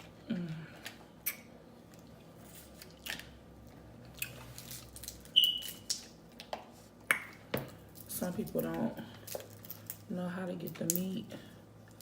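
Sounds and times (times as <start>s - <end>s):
faint eating sounds: 0.0s - 12.0s.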